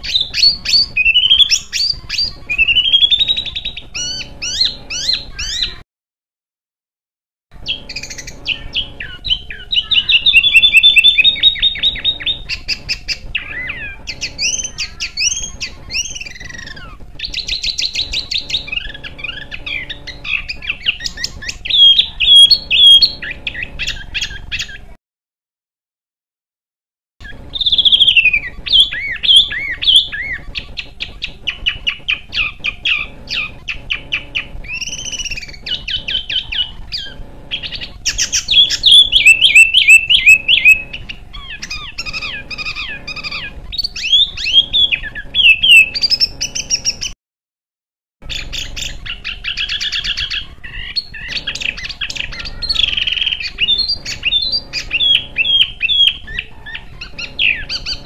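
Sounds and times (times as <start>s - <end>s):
songbird chirps and trills: 0.0s - 5.8s, 7.6s - 25.0s, 27.2s - 47.2s, 48.2s - 58.0s.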